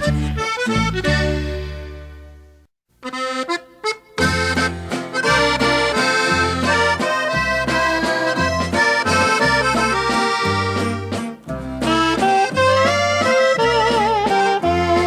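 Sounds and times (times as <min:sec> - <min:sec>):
bass line: 0:00.0 - 0:02.6, 0:04.2 - 0:15.0
button accordion melody: 0:00.0 - 0:15.0.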